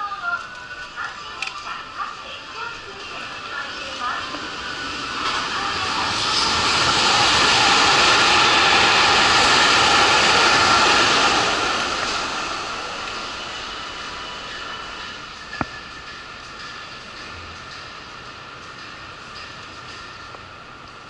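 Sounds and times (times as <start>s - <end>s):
train wheels and motors rushing: 0.0s - 21.0s.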